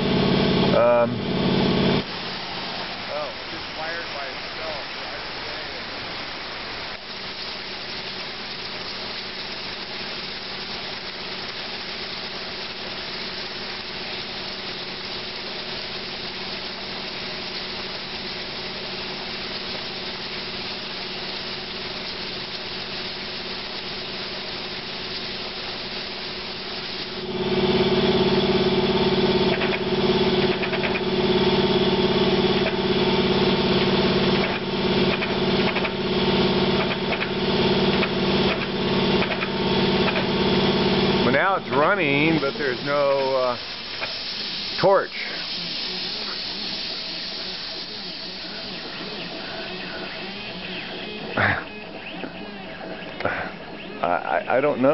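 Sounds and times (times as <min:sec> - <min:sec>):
loud buzzing hum: 0:00.0 - 0:54.9
plasma torch hissing: 0:01.6 - 0:54.9.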